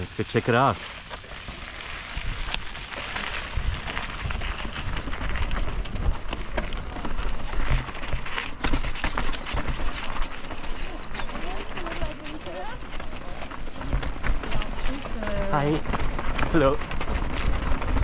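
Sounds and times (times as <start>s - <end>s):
tyres crunching over stones: 0.0s - 18.0s
wind rumbling on microphone: 1.2s - 18.0s
bike clicks and knocks: 2.4s - 18.0s.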